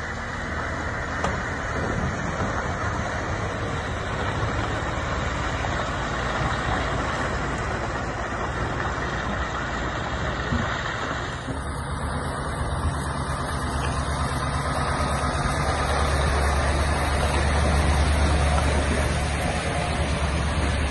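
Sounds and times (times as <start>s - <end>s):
truck diesel engine driving past: 0.0s - 20.9s.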